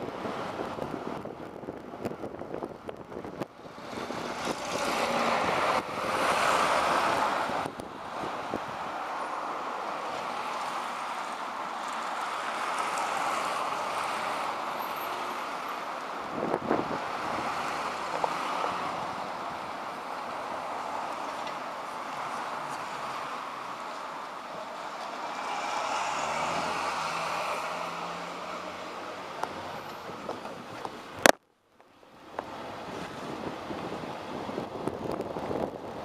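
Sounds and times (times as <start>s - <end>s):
bus road noise: 0.0s - 36.0s.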